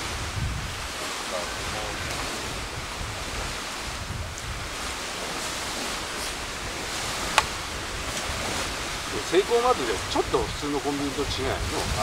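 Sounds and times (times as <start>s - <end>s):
campfire crackling: 0.0s - 10.5s
waves washing on shore: 0.0s - 12.0s
wind rumbling on microphone: 0.0s - 12.0s.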